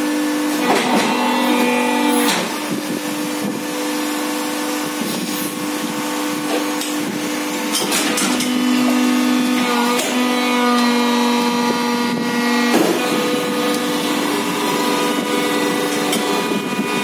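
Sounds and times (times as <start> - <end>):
hydraulic machine hum: 0.0 - 17.0.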